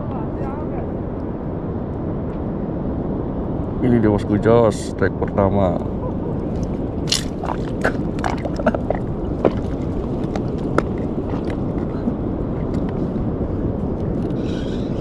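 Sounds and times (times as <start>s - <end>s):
sea noise: 0.0s - 15.0s
wind on microphone: 0.0s - 15.0s.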